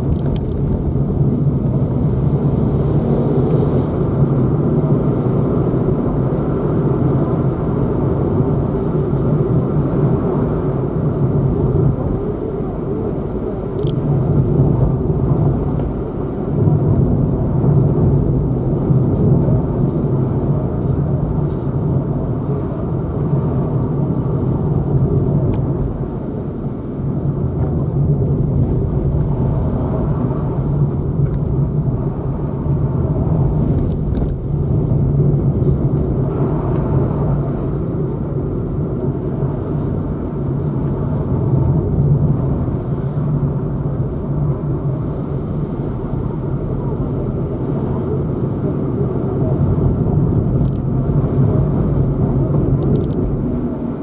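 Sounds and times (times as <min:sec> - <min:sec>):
car engine drone: 0:00.0 - 0:54.0
tyre road noise: 0:00.0 - 0:54.0.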